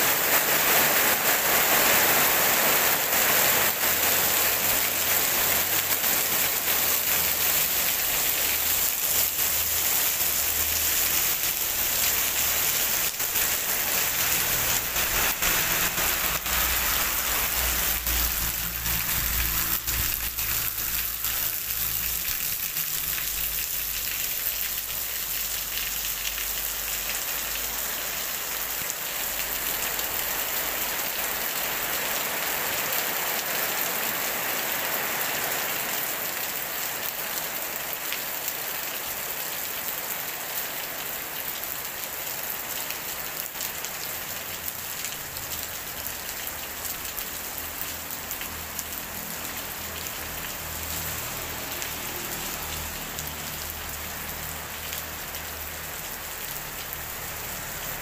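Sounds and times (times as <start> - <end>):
rain on wet pavement: 0.0 - 58.0.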